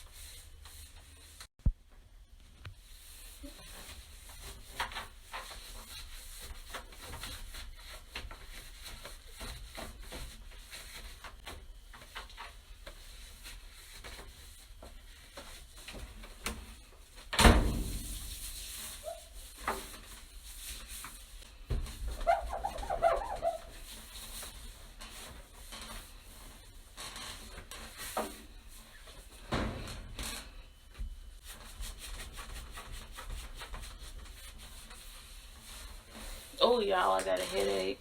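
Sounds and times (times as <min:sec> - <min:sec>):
wipe rubbing washing machine: 0:00.0 - 0:01.5, 0:02.8 - 0:38.0.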